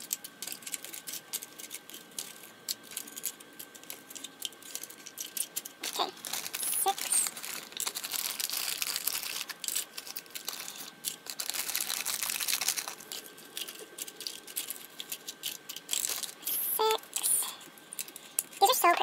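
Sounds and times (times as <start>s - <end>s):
plastic crinkling: 0.0s - 19.0s.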